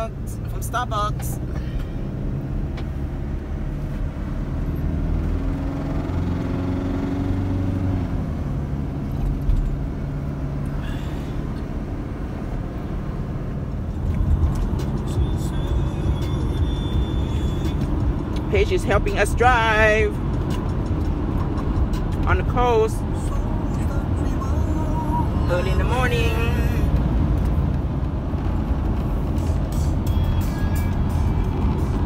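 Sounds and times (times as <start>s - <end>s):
van cabin road rumble: 0.0s - 32.0s.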